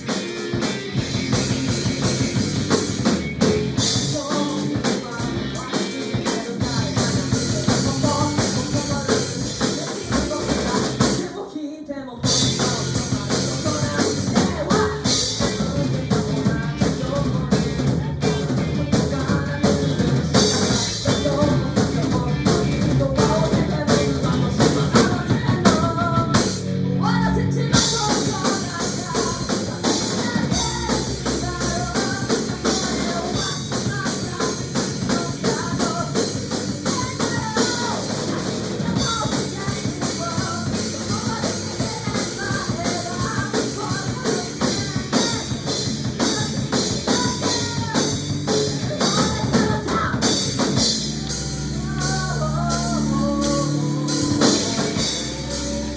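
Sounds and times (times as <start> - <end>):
drum kit: 0.0 - 11.5, 12.2 - 55.9
live rock band playing: 0.0 - 11.5, 12.2 - 55.9
person singing: 0.0 - 55.9.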